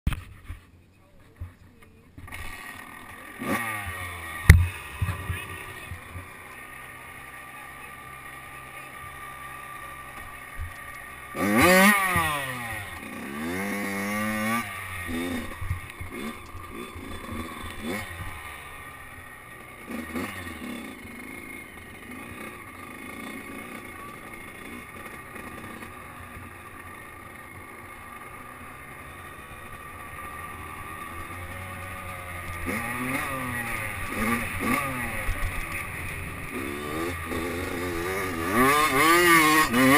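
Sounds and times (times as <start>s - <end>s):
dirt bike engine revving: 2.2s - 39.9s.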